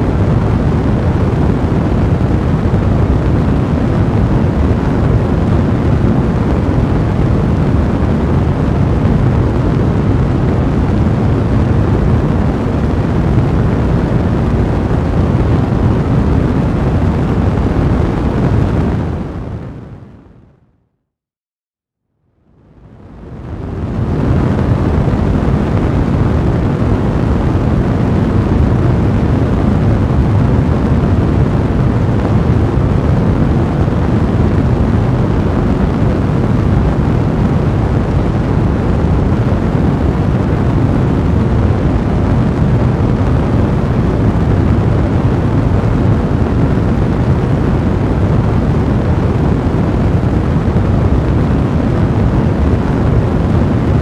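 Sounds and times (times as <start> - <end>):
fire burning with low rumble: 0.0 - 20.6, 22.3 - 54.0.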